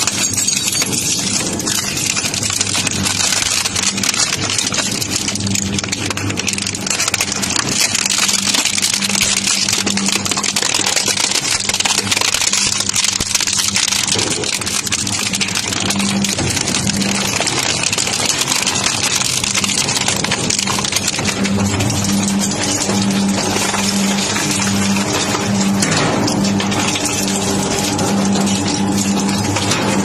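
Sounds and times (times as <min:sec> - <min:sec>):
material crunching and crackling: 0:00.0 - 0:30.0
low motor hum: 0:02.1 - 0:30.0.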